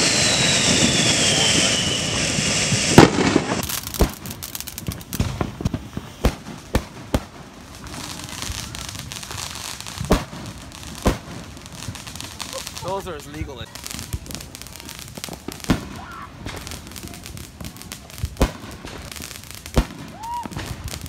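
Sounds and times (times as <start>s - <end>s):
fireworks bang: 0.0s - 12.9s, 13.6s - 21.0s
fireworks popping and cracking: 0.0s - 21.0s.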